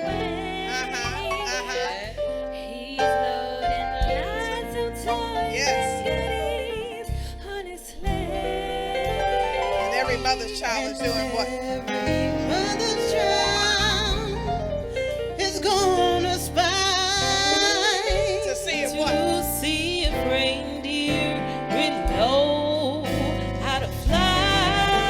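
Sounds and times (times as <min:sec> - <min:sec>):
gospel-style singing: 0:00.0 - 0:25.0
instrumental backing: 0:00.0 - 0:25.0.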